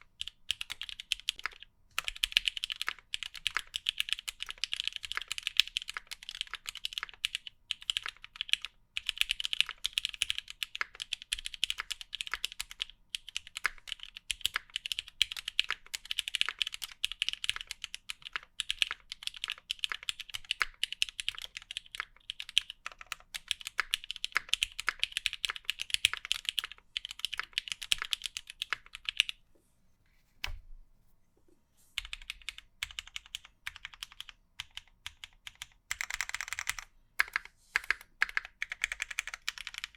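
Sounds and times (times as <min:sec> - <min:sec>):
mechanical keyboard typing: 0:00.0 - 0:29.4, 0:32.0 - 0:39.9.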